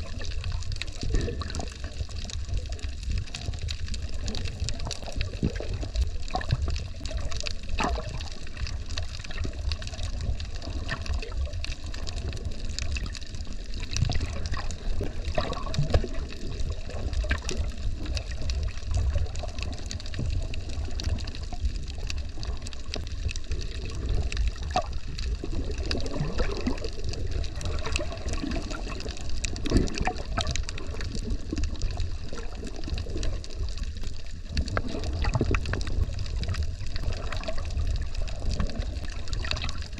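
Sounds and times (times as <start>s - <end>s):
low rumble of moving water: 0.0s - 39.9s
water bubbling and sloshing: 0.0s - 39.9s.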